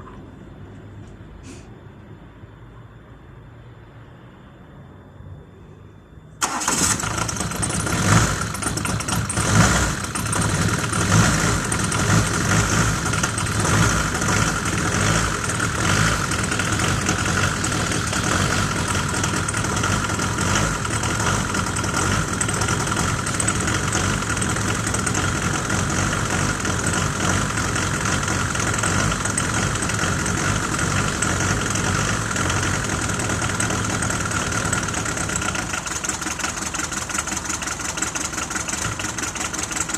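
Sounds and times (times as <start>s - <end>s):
diesel engine starting and idling: 6.3s - 39.9s.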